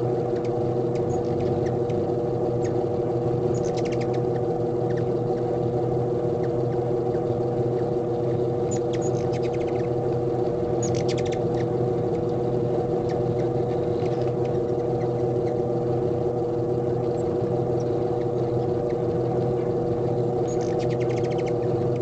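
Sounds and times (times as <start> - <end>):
hummingbirds chittering: 0.0 - 22.0
steady hum of held tones: 0.0 - 22.0.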